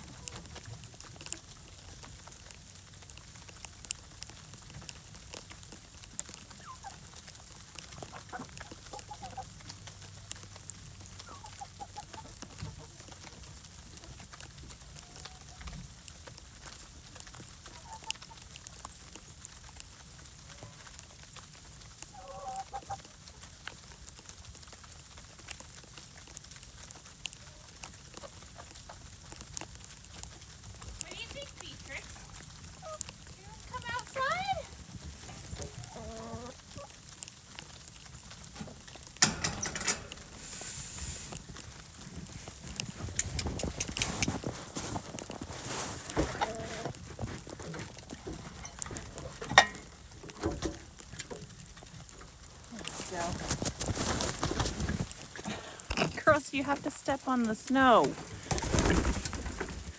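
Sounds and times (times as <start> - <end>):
hens clucking: 0.0 - 18.7, 20.0 - 23.8, 27.0 - 59.9
small clicks and ticks: 0.0 - 59.9.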